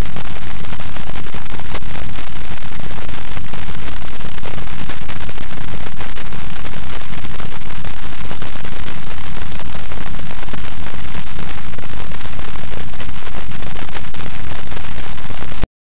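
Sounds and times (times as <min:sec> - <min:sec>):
crackling electronic static: 0:00.0 - 0:15.7.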